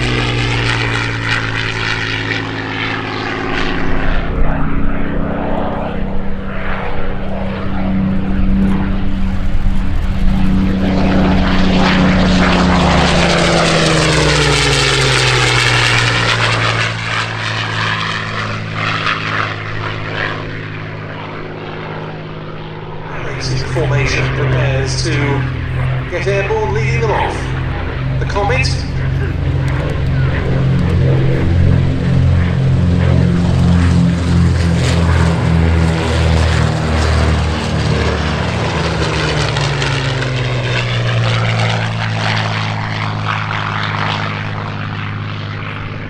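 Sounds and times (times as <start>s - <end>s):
propeller plane engine flypast: 0.0s - 46.0s.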